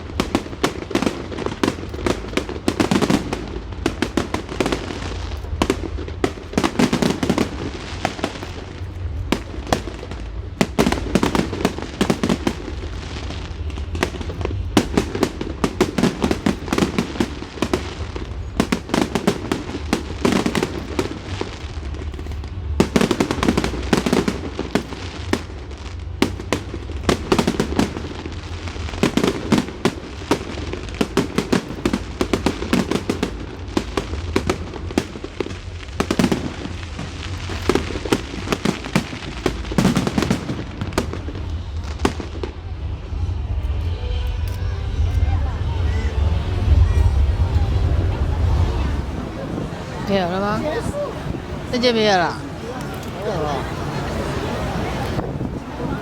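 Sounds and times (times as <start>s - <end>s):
fireworks cracking and popping: 0.0s - 56.0s.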